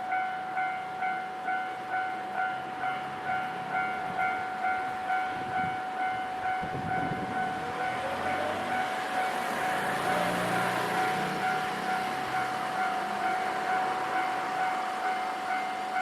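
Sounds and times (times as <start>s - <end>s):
level crossing alarm ringing: 0.0s - 16.0s
train passing: 0.0s - 16.0s.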